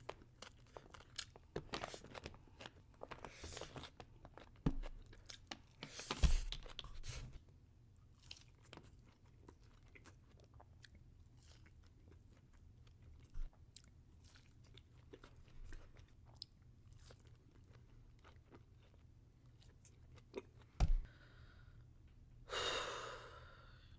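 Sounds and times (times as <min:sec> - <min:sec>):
chewing and crunching food: 0:00.0 - 0:20.8.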